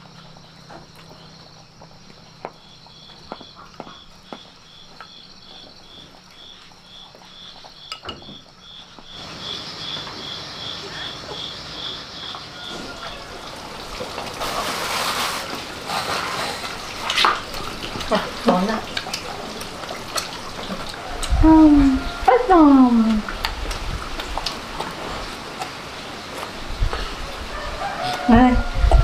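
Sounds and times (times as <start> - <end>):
insect chirping: 0.0 - 28.9
background hiss: 0.0 - 29.0.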